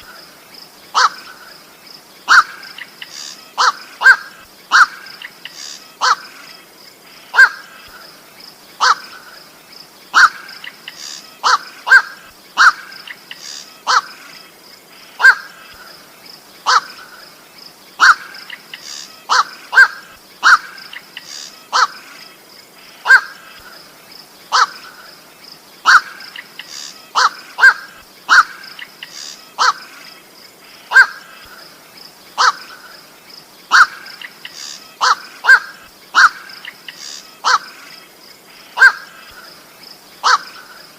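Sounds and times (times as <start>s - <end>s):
harsh bird calls: 0.0s - 40.9s.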